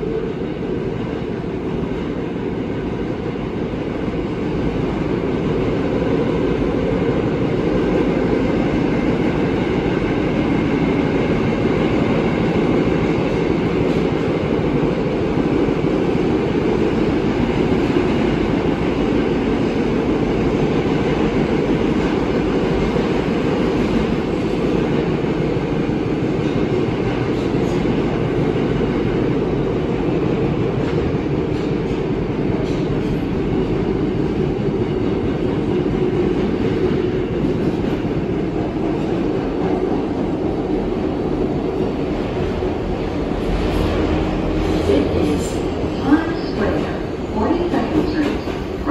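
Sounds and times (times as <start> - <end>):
subway wheels rumbling on rails: 0.0 - 48.9.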